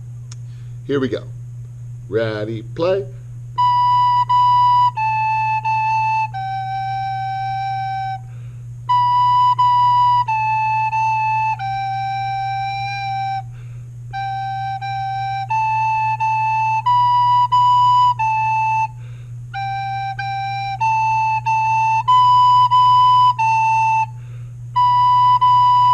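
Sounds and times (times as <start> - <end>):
low electrical hum: 0.0 - 25.9
recorder playing slow tune: 3.2 - 25.9.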